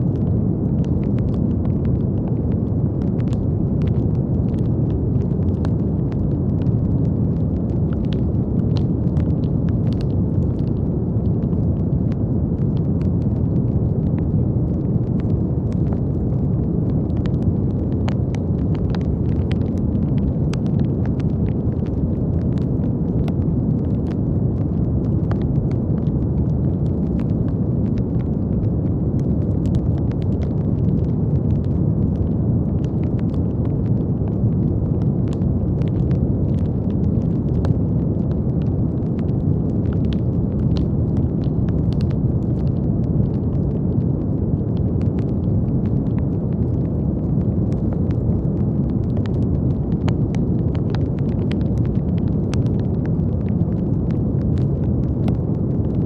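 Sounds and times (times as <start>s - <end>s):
deep rumbling brown noise: 0.0s - 56.0s
faint crackles: 0.0s - 56.0s.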